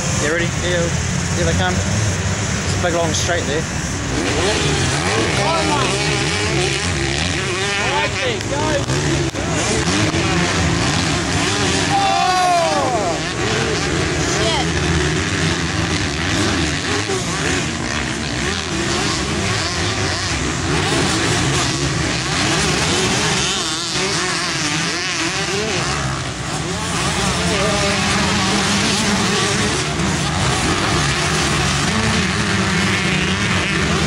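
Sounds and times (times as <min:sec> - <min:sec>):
motocross bike engines revving: 0:00.0 - 0:34.0.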